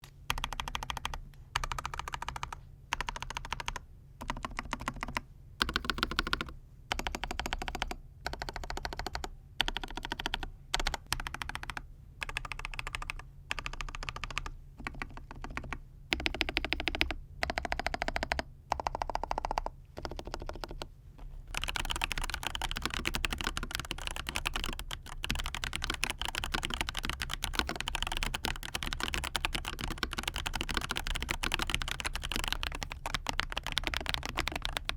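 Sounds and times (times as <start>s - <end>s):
mechanical keyboard typing: 0.3s - 20.9s, 21.5s - 34.9s.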